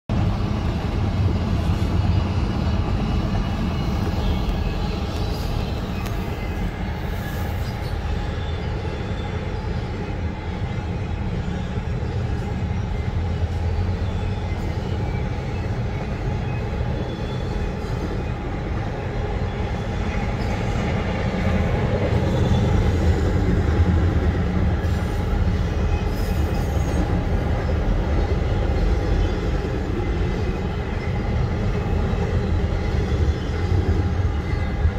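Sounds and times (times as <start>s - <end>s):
freight train rumbling past: 0.1s - 34.9s.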